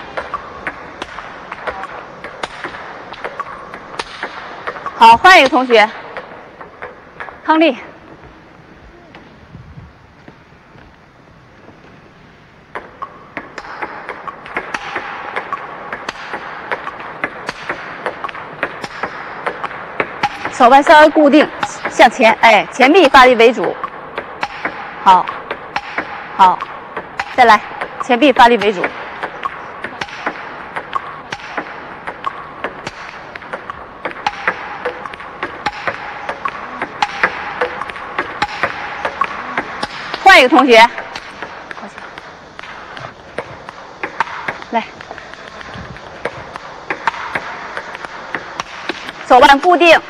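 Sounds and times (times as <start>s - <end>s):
table tennis balls bouncing and struck: 0.0s - 7.6s, 12.6s - 49.9s.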